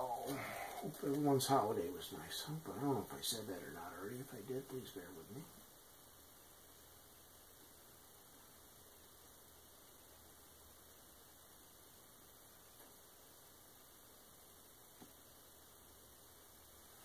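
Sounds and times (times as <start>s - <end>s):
faint steady hiss: 0.0s - 17.0s
low mains hum: 0.0s - 17.0s.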